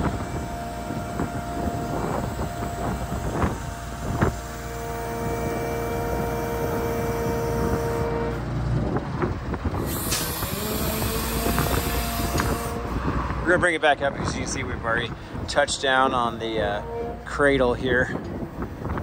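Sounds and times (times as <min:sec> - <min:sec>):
diesel engine running: 0:00.0 - 0:19.0
hydraulics whining: 0:00.0 - 0:19.0.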